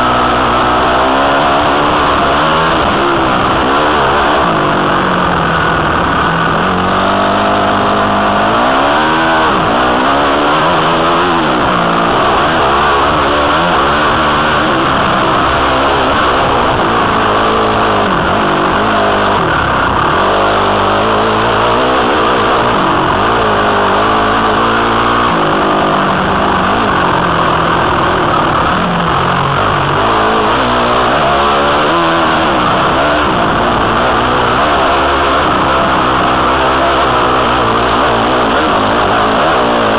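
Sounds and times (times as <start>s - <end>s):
dirt bike engine revving: 0.0s - 39.9s
steady background noise: 0.0s - 39.9s.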